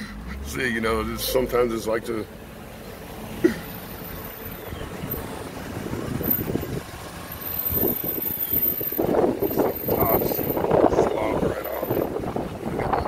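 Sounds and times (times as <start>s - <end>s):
vehicle engine and tyres rumbling: 0.0s - 13.0s.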